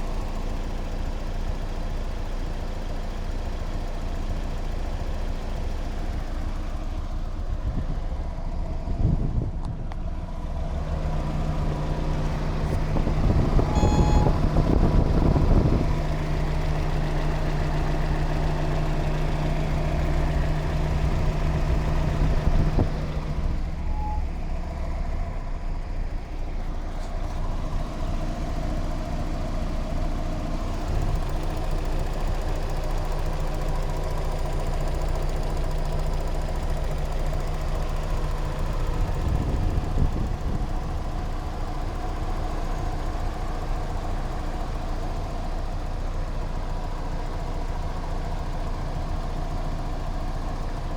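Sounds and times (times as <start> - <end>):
car engine running: 0.0 - 50.9
engine ticking: 0.0 - 50.9.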